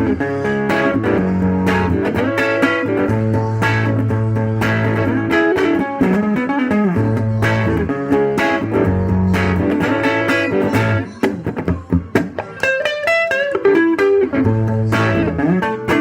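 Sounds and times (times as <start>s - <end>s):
bass and drums backing: 0.0s - 12.6s, 14.3s - 16.0s
clean electric guitar riff: 0.0s - 16.0s.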